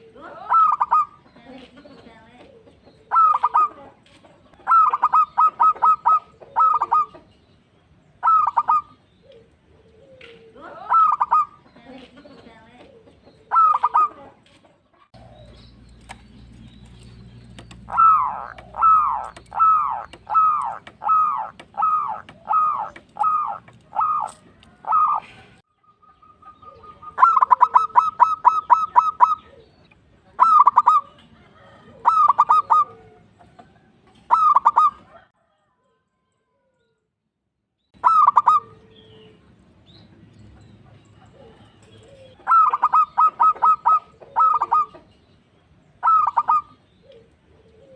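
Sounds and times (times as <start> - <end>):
dove cooing: 0.0 - 7.3, 8.1 - 14.4, 15.0 - 35.3, 38.0 - 39.5, 40.8 - 45.2, 45.9 - 47.9.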